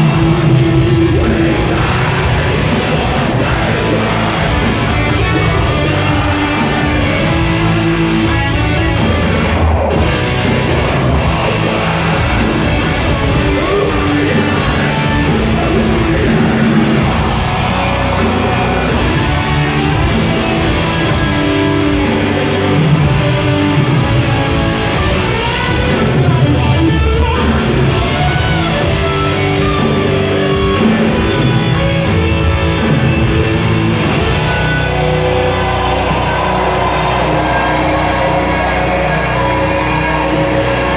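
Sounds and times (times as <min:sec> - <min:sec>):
distorted electric guitars: 0:00.0 - 0:40.9
drums: 0:00.0 - 0:40.9
rock vocals: 0:00.0 - 0:40.9.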